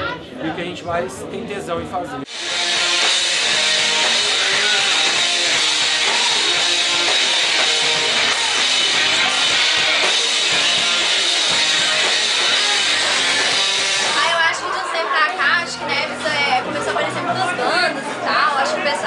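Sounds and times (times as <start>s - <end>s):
rock band playing loudly: 2.3s - 19.0s.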